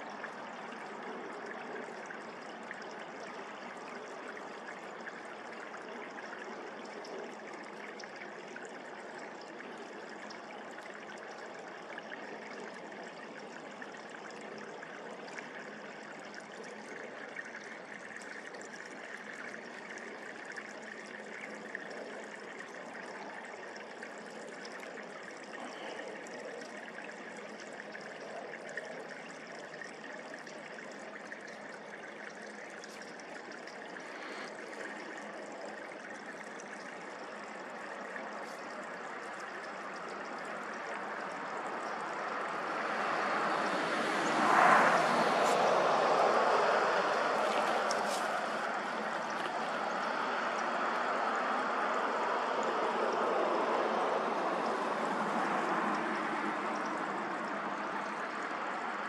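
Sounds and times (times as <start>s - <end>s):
rushing flowing water: 0.0s - 59.0s.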